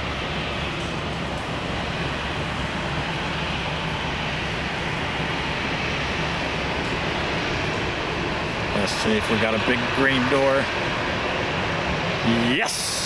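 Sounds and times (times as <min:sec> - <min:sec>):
jet airliner engines running: 0:00.0 - 0:13.0.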